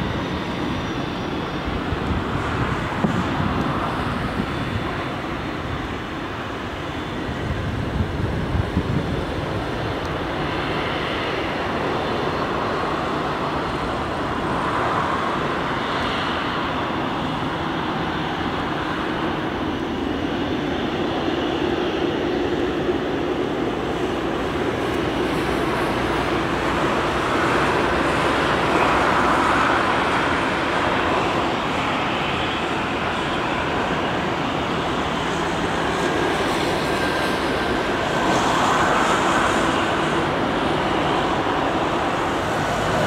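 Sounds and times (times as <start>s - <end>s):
jet engines rumbling with whine: 0.0s - 43.0s.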